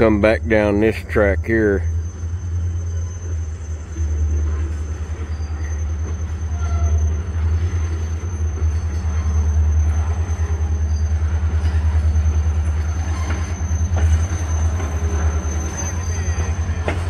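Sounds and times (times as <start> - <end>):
train rumbling: 0.0 - 17.0
faint wheel squeals: 0.6 - 17.0.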